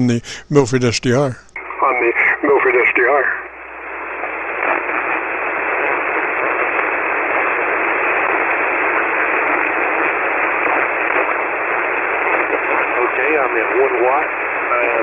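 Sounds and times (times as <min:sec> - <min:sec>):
shortwave radio static hiss: 0:00.0 - 0:15.0.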